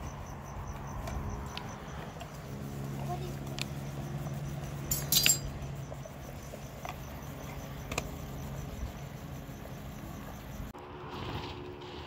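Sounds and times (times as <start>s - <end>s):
crickets chirping: 0.0s - 10.8s.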